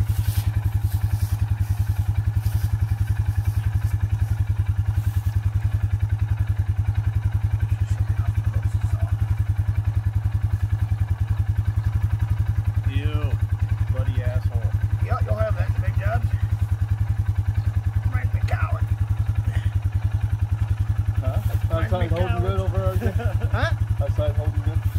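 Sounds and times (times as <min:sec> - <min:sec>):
atv engine idling: 0:00.0 - 0:24.9.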